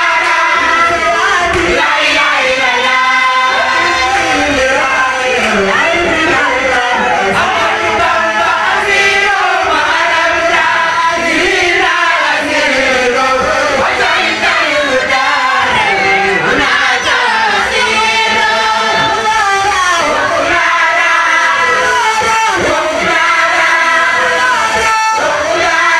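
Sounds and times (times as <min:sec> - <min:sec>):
choir singing a chant: 0:00.0 - 0:25.9
lead singer through microphone: 0:00.0 - 0:25.9.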